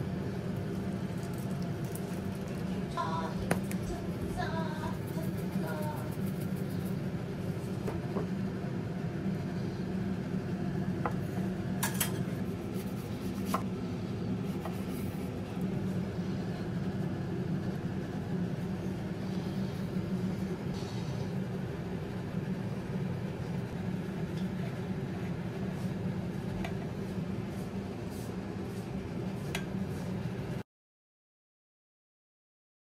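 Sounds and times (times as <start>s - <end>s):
steady low hum: 0.0s - 30.6s.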